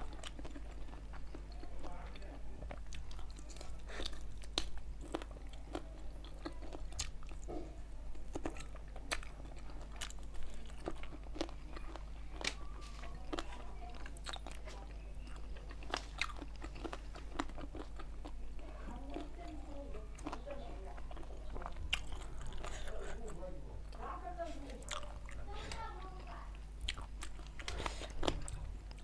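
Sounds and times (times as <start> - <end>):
chewing and crunching food: 0.0 - 29.0
steady low hum: 0.0 - 29.0.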